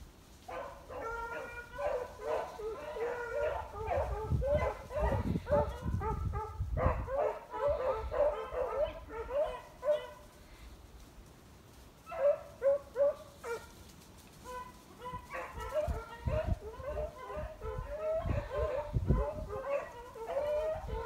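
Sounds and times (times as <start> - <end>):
dogs baying: 0.5 - 10.4, 12.1 - 13.8, 14.4 - 21.0.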